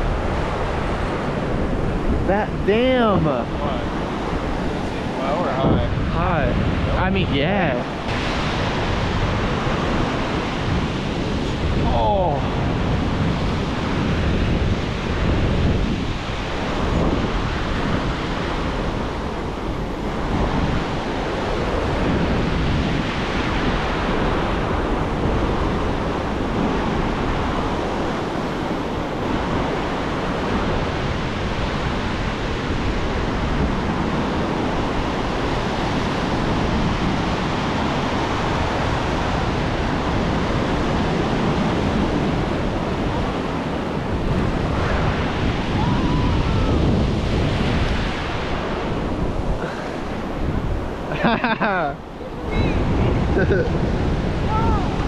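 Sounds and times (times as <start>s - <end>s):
ocean surf washing on sand: 0.0s - 55.0s
wind buffeting microphone: 0.0s - 55.0s.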